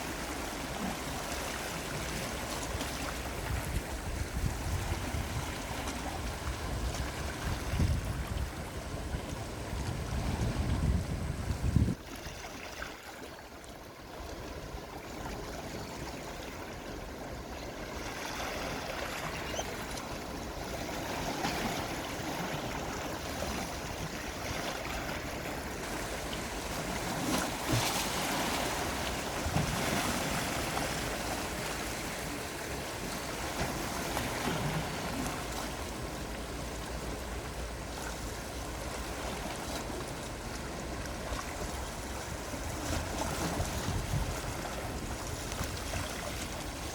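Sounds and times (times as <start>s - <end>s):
sea waves washing in: 0.0s - 46.9s.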